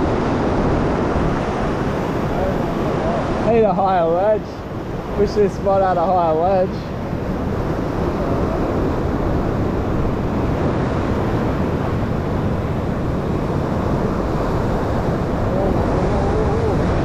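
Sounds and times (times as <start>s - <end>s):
ocean surf breaking over rocks: 0.0s - 17.0s.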